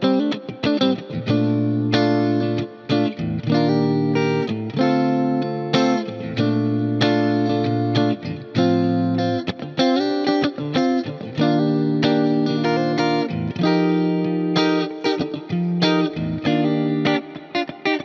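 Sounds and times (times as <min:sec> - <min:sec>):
electric guitar chords with delay: 0:00.0 - 0:18.0.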